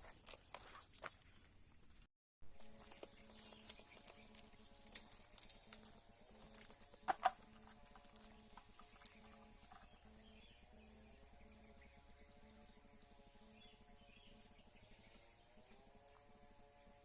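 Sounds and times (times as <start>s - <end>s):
high-pitched insect drone: 2.5s - 17.0s.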